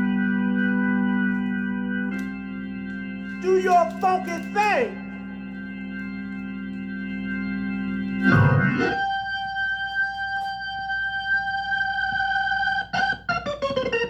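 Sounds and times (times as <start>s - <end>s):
organ solo: 0.0s - 14.0s.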